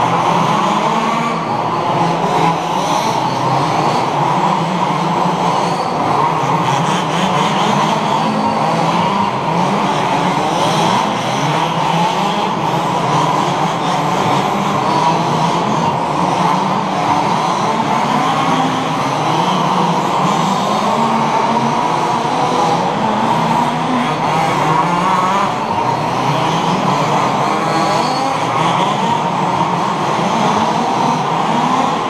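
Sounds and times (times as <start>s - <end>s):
rc car engines revving: 0.0s - 32.0s.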